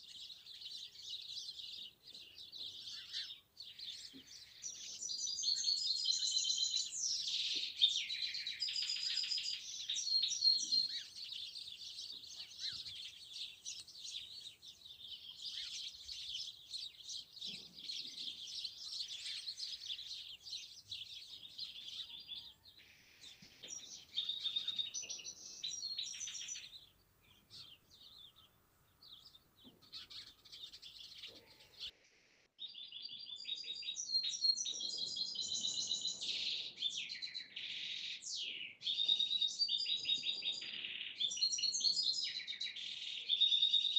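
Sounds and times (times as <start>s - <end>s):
songbirds chirping and twittering: 0.0s - 43.9s.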